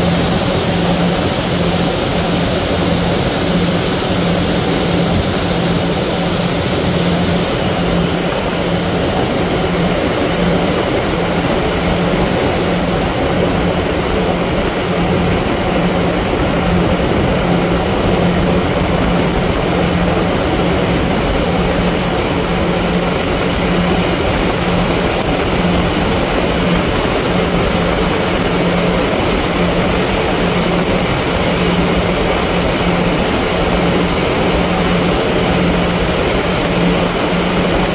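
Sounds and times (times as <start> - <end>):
ferry engine humming: 0.0 - 37.9
rush of wind and water: 0.0 - 37.9.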